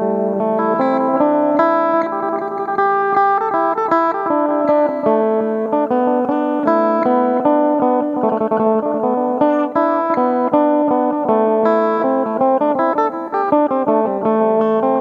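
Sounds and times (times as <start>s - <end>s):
lute picked melodic runs: 0.0s - 15.0s.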